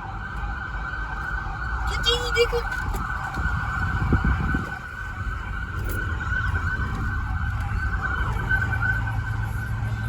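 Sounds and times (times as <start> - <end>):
car engines rumbling: 0.0 - 10.0
police siren: 0.0 - 10.0.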